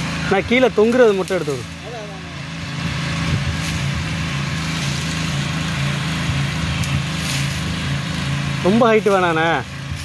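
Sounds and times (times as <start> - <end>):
petrol engine running: 0.0 - 10.0.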